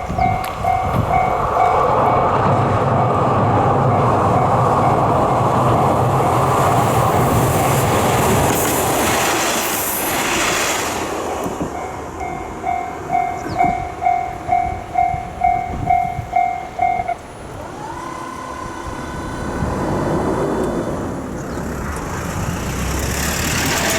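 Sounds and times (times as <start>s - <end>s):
road traffic: 0.0s - 23.9s
train passing: 0.0s - 23.9s.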